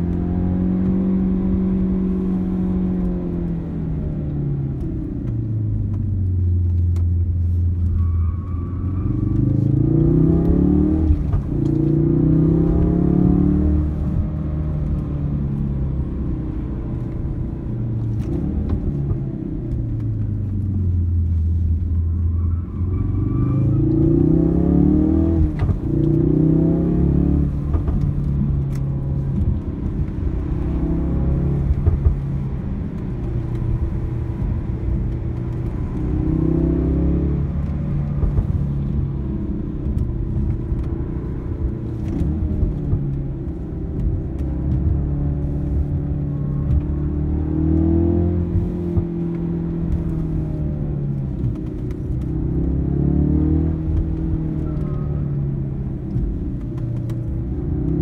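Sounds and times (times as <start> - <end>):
car engine accelerating: 0.0 - 58.0
road and tyre rumble: 0.0 - 58.0.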